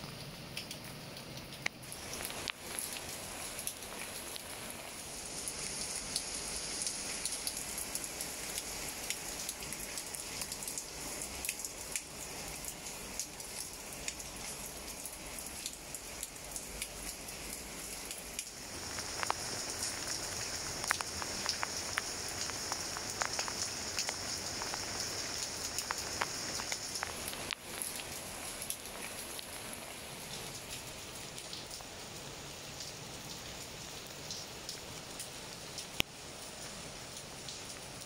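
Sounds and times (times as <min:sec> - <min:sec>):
rain falling on leaves: 0:00.0 - 0:38.0.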